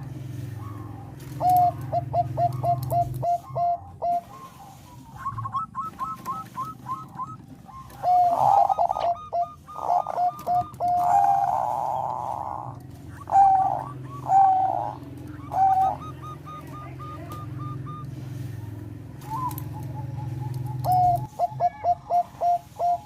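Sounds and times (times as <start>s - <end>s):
dove cooing in staccato notes: 0.0s - 23.0s.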